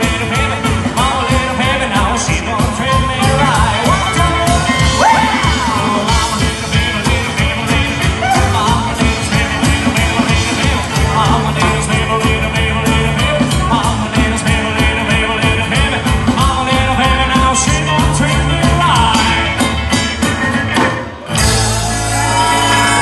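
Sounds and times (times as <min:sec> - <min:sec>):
man singing lead vocal: 0:00.0 - 0:23.0
rock and roll band playing: 0:00.0 - 0:23.0
steady drum beat: 0:00.0 - 0:23.0.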